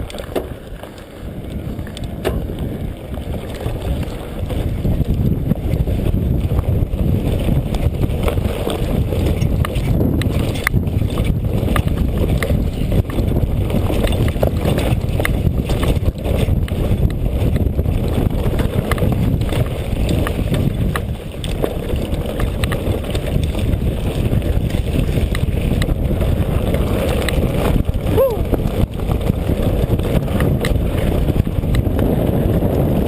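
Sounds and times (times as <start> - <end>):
bike clicks and rattles: 0.0 - 33.0
wind buffeting microphone: 0.0 - 33.0.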